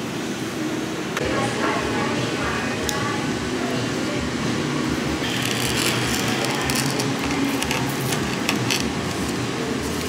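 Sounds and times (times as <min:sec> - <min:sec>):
room hum: 0:00.0 - 0:10.0.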